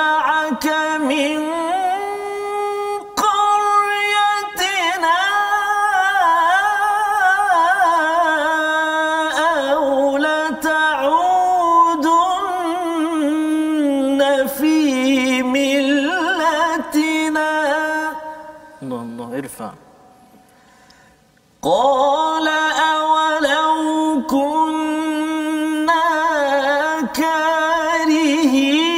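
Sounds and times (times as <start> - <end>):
man chanting melodically: 0.0 - 20.0, 21.6 - 28.9.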